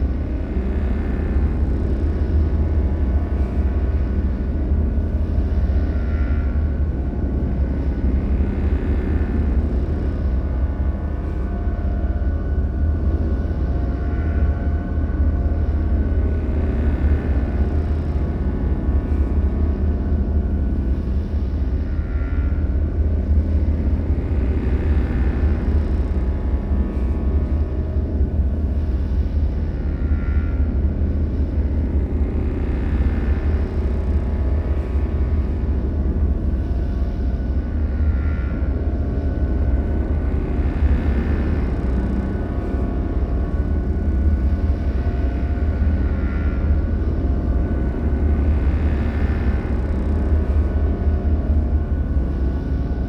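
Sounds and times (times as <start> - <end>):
low rumbling drone: 0.0 - 53.0.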